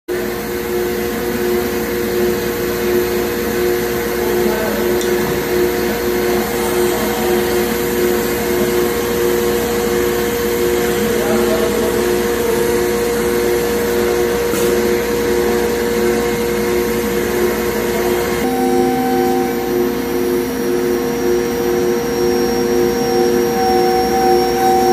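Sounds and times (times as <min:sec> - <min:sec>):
cnc router humming: 0:00.1 - 0:24.9
pulsing tone: 0:00.7 - 0:24.9.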